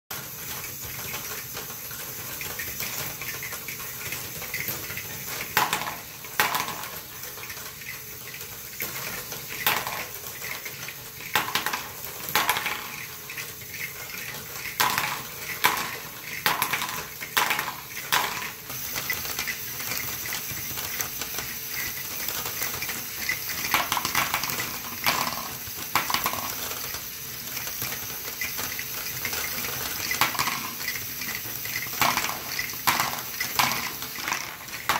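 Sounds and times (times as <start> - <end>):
marbles clicking and clacking: 0.1 - 34.9.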